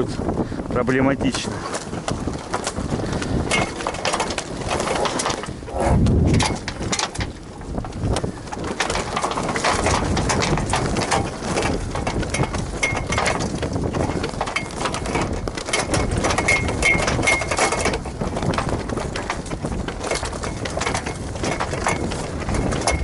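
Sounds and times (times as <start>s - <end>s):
sail cloth flapping: 0.0s - 23.0s
strong wind buffeting: 0.0s - 23.0s.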